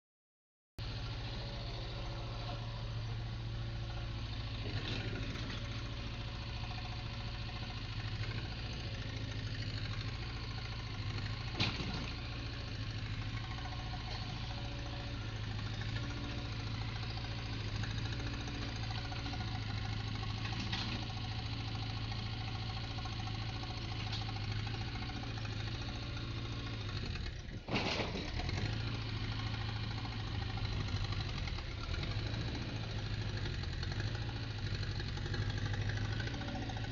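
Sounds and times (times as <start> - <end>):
diesel engine idling: 0.8 - 36.9.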